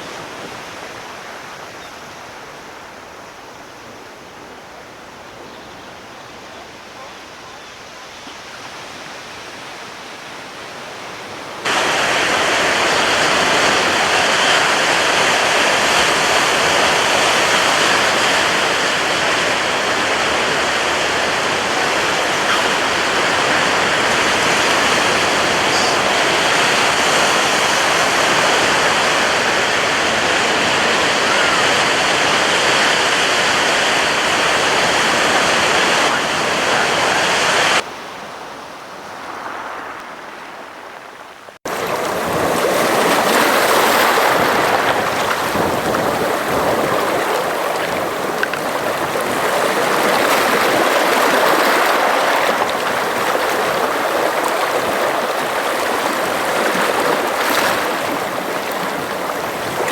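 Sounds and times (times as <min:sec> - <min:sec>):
sea surf rushing: 0:00.0 - 0:59.9.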